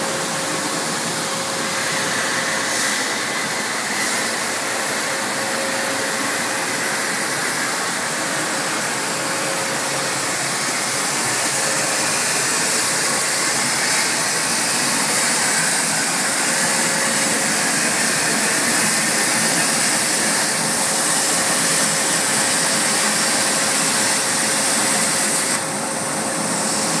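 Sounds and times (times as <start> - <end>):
plasma arc hissing: 0.3 - 27.0.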